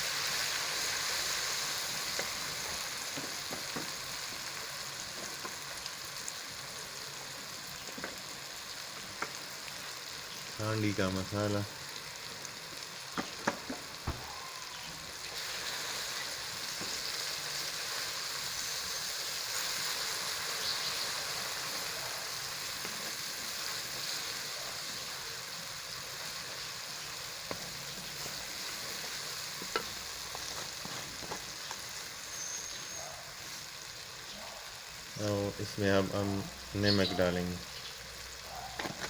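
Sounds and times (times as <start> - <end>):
masala sizzling in hot oil: 0.0 - 39.0.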